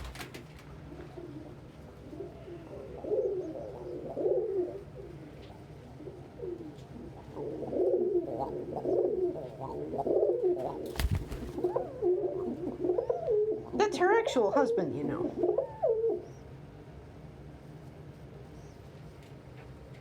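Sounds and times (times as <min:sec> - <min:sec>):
pigeons cooing: 0:00.0 - 0:16.5.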